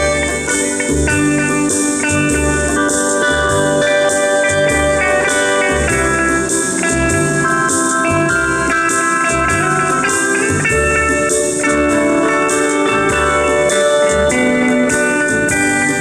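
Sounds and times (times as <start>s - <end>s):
bass notes: 0.0s - 16.0s
drum and cymbal beat: 0.0s - 16.0s
steel guitar melody: 0.0s - 16.0s.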